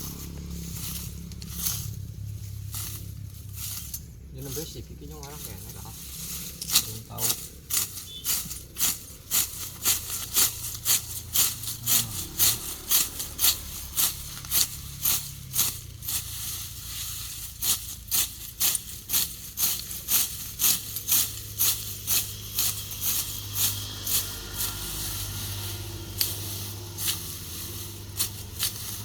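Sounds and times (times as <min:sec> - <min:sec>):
sickle slicing through grass: 0:00.0 - 0:04.0, 0:05.2 - 0:29.0.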